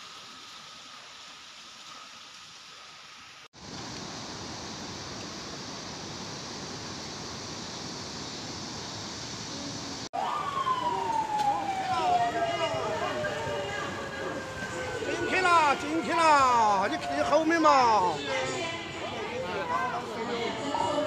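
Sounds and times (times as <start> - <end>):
floodwater rushing: 0.0 - 21.0
hissy water rush: 0.0 - 21.0.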